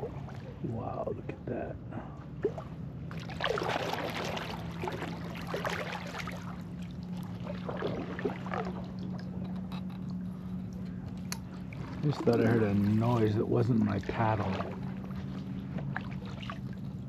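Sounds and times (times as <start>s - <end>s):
steady low hum: 0.0s - 17.0s
paddle dipping in water: 2.2s - 17.0s.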